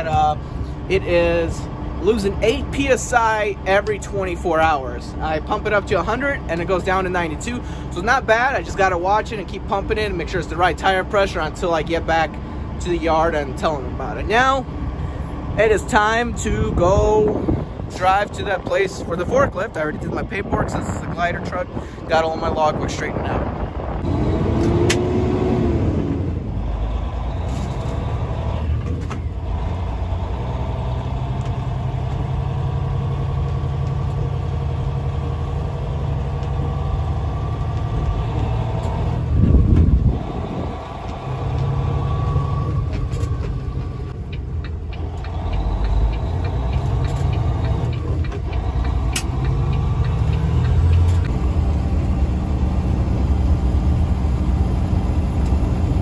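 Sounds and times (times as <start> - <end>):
truck diesel engine shifting gears: 0.0 - 56.0.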